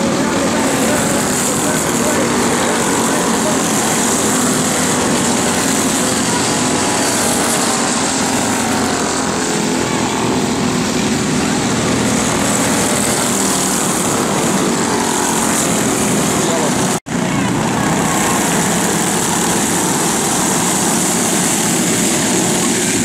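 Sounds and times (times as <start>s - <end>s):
go-kart engines droning: 0.0s - 23.0s.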